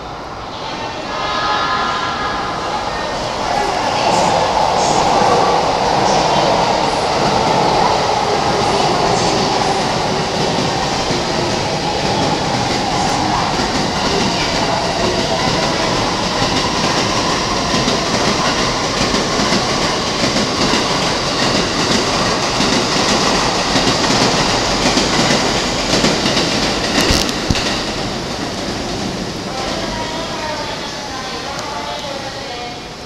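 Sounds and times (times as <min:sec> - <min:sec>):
electric train rolling past: 0:00.0 - 0:33.0.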